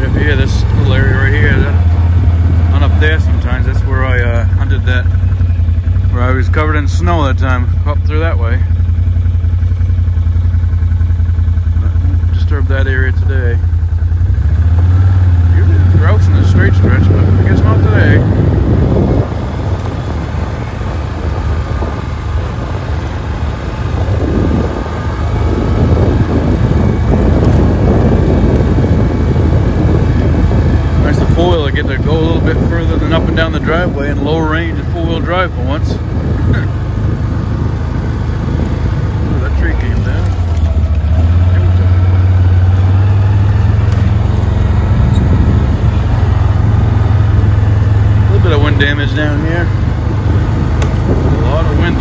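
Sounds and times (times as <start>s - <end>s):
atv engine running: 0.0s - 52.0s
wind rumbling on microphone: 0.0s - 52.0s.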